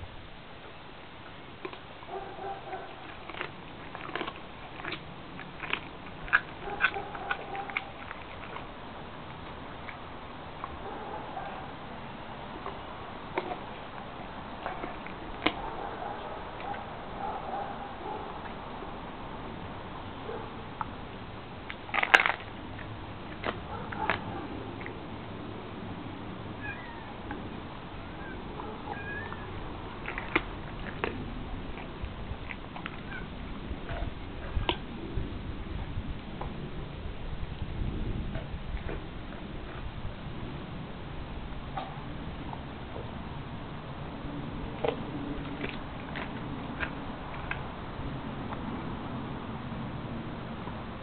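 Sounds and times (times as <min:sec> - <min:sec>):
dog chewing raw chicken: 0:01.6 - 0:18.9, 0:20.2 - 0:25.9, 0:27.2 - 0:36.8, 0:37.4 - 0:40.7, 0:43.9 - 0:49.0.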